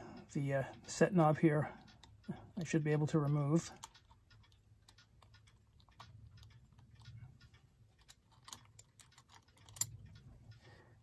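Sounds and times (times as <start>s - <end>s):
small clicks and taps on brass: 1.6s - 10.8s.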